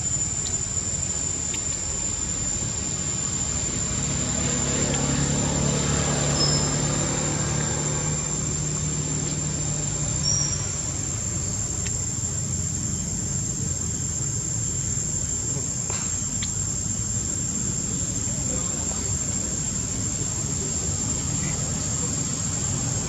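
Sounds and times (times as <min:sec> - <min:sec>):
high thin insect drone: 0:00.0 - 0:23.0
low engine-like rumble: 0:00.0 - 0:23.0.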